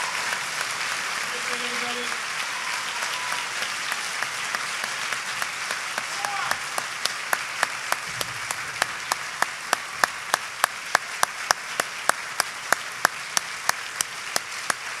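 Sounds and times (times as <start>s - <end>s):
audience applauding: 0.0s - 15.0s
sharp rhythmic claps: 0.0s - 15.0s.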